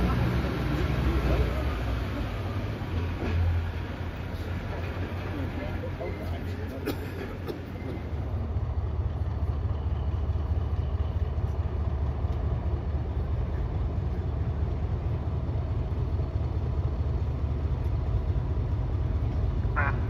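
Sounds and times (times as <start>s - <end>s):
diesel train engine idling: 0.0s - 20.0s.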